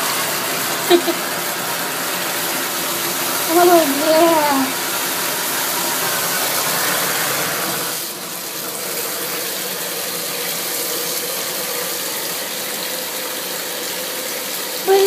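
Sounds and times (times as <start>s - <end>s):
faucet water pouring into tub: 0.0s - 15.0s.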